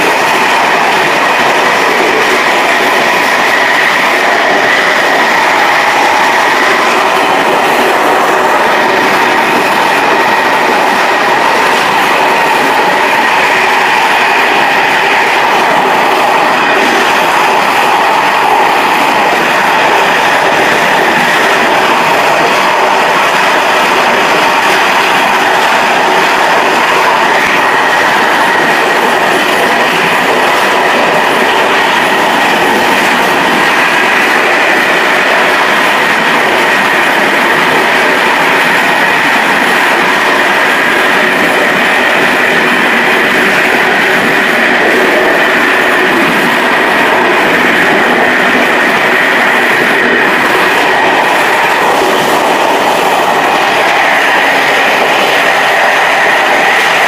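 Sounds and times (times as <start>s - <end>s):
train wheels rolling on track: 0.0s - 57.0s.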